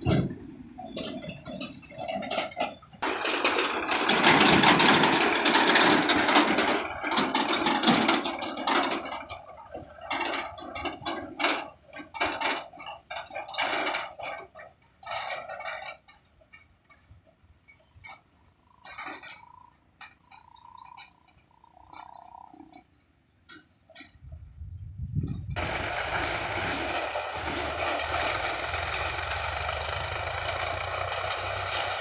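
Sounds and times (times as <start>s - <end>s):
diesel tractor running: 0.0s - 32.0s
steel trailer rattling: 0.0s - 32.0s.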